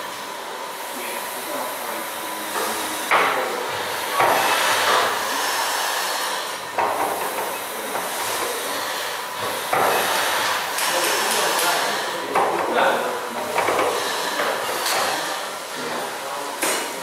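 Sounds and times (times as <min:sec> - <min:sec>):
steam engine hissing: 0:00.0 - 0:17.0.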